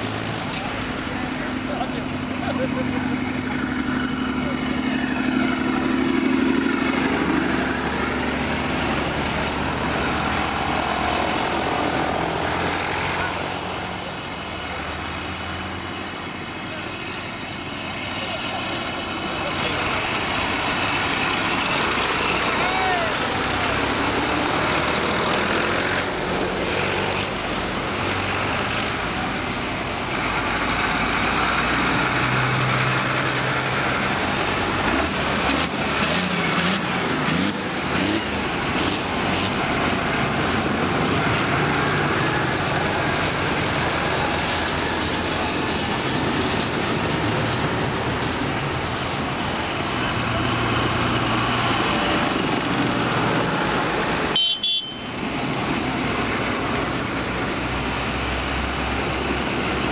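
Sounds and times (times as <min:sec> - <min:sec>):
tractors driving past: 0:00.0 - 0:59.9.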